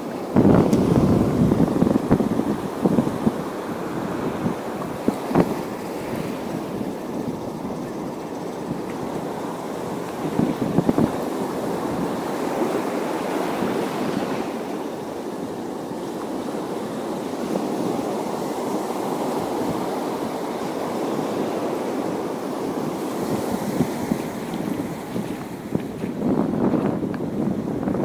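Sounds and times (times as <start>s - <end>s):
rushing water: 0.0s - 28.0s
rushing wind: 0.0s - 28.0s
wind buffeting microphone: 0.0s - 28.0s.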